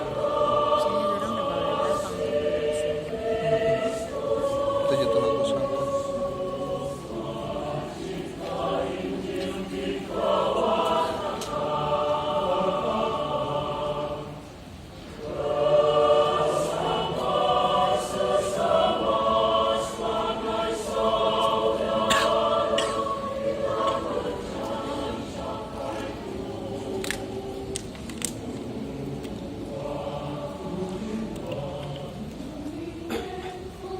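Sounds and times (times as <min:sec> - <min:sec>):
choir singing a hymn: 0:00.0 - 0:33.9.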